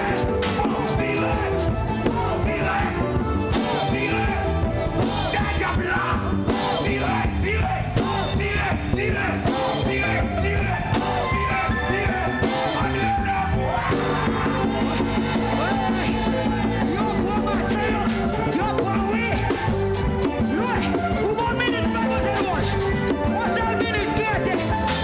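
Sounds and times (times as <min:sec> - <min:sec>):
praise band playing: 0:00.0 - 0:25.0
voices singing: 0:00.0 - 0:25.0.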